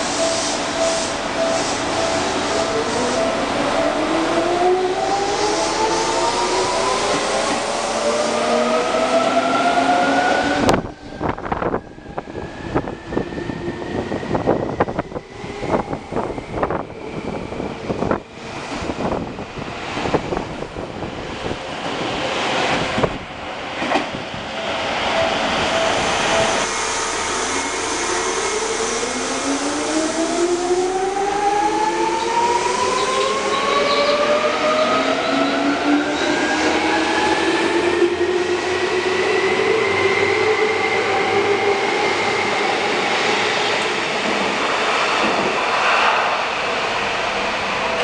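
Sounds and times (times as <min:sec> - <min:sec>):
wheels rumbling on rail: 0:00.0 - 0:48.0.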